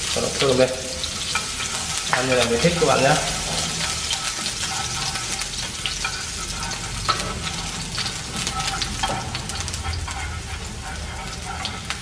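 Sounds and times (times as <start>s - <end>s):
chopsticks stirring in a pan: 0.0s - 12.0s
onion sizzling in hot oil: 0.0s - 12.0s.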